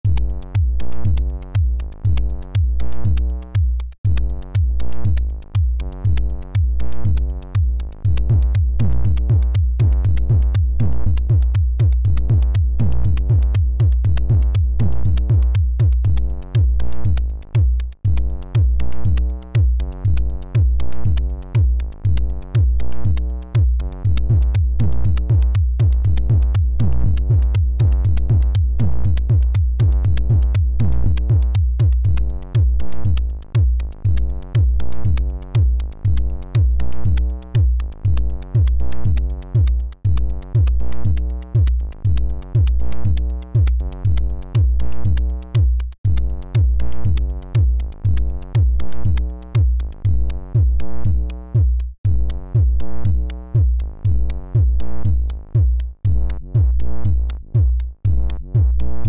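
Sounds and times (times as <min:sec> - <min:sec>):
kick drum: 0:00.0 - 0:59.0
sustained low synthesizer notes: 0:00.0 - 0:59.0
ticking hi-hats: 0:00.0 - 0:59.0.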